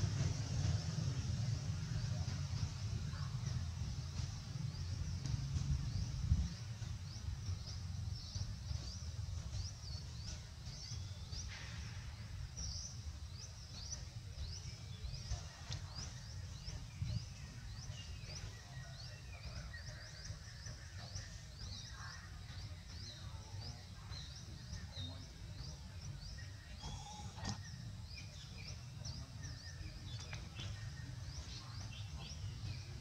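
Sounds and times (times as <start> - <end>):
steady low rumble: 0.0 - 33.0
wildlife chirping: 2.0 - 33.0.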